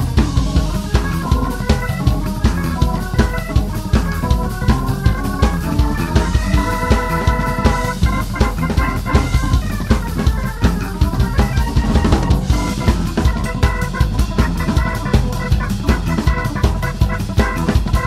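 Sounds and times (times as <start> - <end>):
bass guitar: 0.0 - 18.0
drum kit played busily: 0.0 - 18.0
held chord tones: 0.0 - 18.0
keyboard: 0.0 - 18.0.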